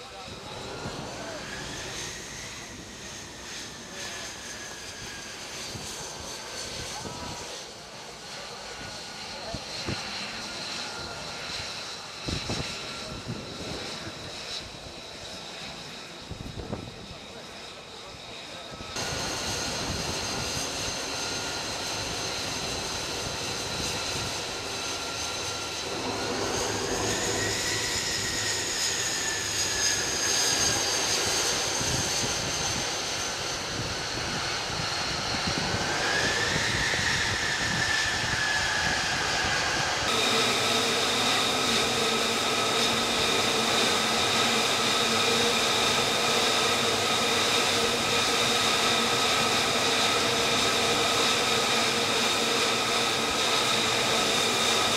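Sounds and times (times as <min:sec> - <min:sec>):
jet engine whining: 0:00.0 - 0:54.9.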